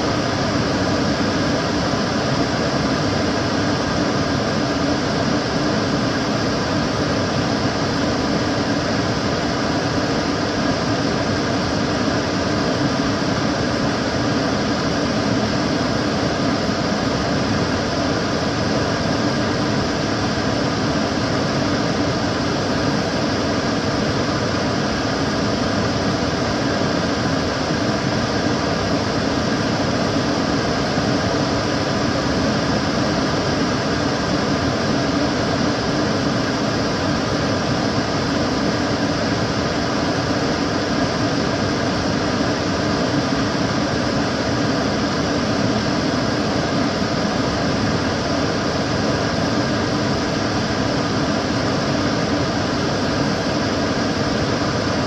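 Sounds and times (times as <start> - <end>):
extractor fan running: 0.0 - 55.0.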